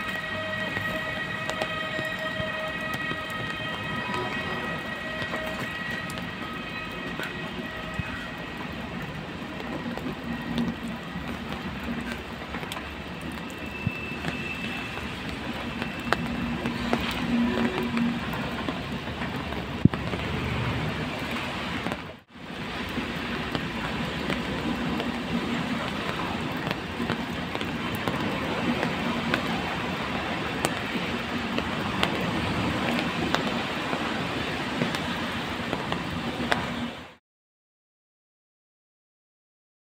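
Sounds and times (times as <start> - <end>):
freight train rolling past: 0.0 - 37.2
wheels clicking on rails: 0.1 - 36.8.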